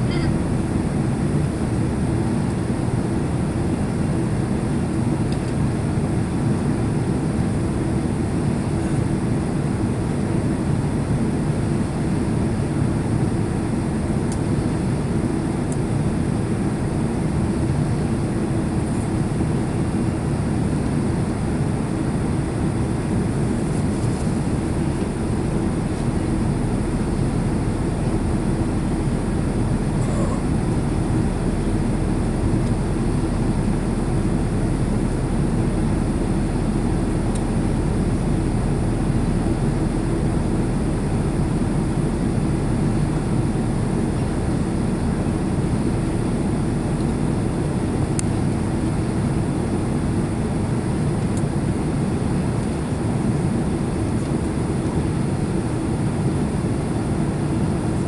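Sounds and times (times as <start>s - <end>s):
airplane cabin engine rumble: 0.0s - 58.0s
steady low hum: 0.0s - 58.0s.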